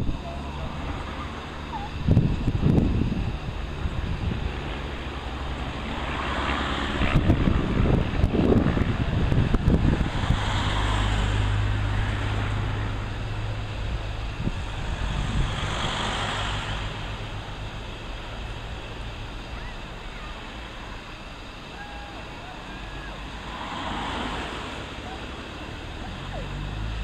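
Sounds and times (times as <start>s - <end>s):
wind buffeting microphone: 0.0s - 21.7s
light aircraft engine droning: 0.0s - 27.0s.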